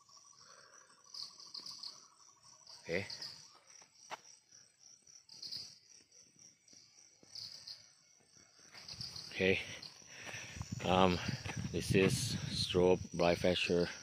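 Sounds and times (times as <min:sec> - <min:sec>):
insect chirps: 0:00.0 - 0:14.0
insect trill: 0:00.0 - 0:14.0.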